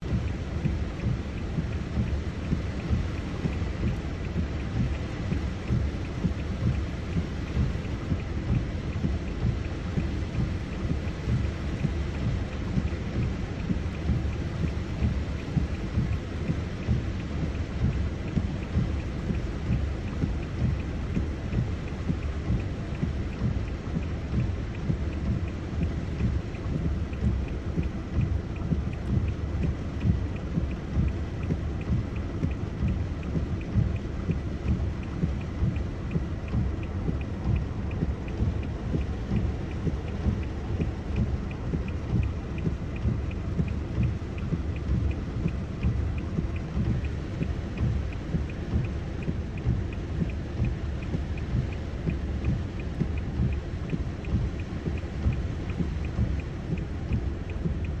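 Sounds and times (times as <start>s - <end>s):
faint regular ticking: 0.0s - 58.0s
heavy rain: 0.0s - 58.0s.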